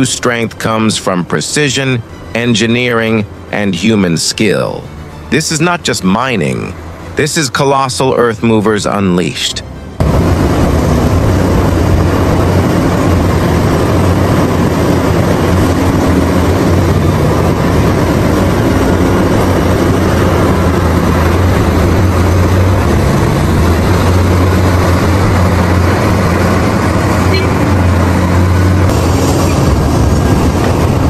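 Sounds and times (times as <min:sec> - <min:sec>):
excavator diesel engine droning: 0:00.0 - 0:31.0.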